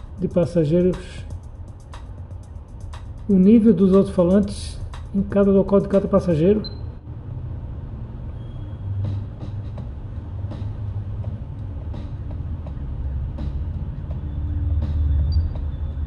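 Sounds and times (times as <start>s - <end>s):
steady low rumble: 0.0s - 8.4s, 9.0s - 16.0s.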